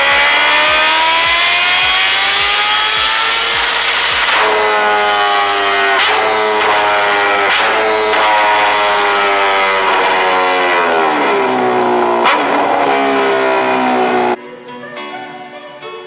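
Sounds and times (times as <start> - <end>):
motorcycle engine at high revs: 0.0 - 14.4
sharp exhaust crack: 0.0 - 14.4.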